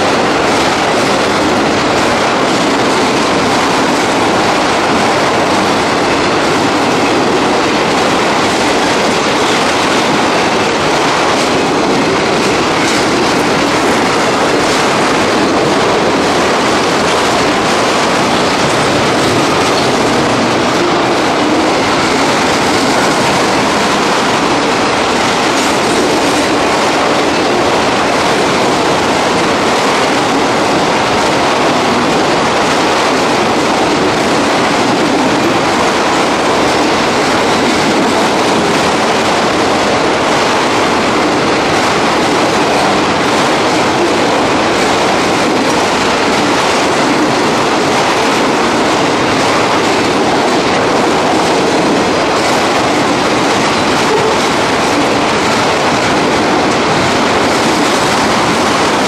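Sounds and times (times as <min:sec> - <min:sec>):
steel train wheels rolling on rails: 0:00.0 - 0:59.0.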